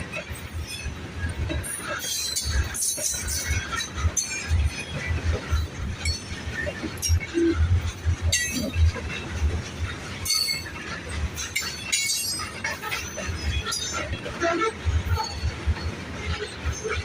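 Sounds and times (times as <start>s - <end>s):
metallic clanks and squeals: 0.0s - 17.0s.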